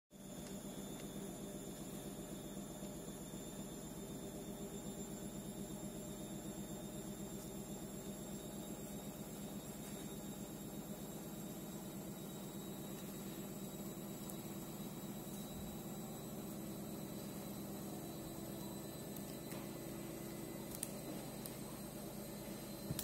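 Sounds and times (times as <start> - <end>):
faint high whine: 0.1 - 23.0
electrical hum and hiss: 0.2 - 23.0.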